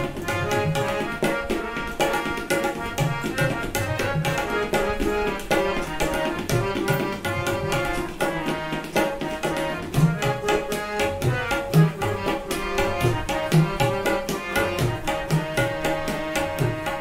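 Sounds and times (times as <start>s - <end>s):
harmonium sustained notes: 0.0s - 17.0s
tabla drumming: 0.0s - 17.0s.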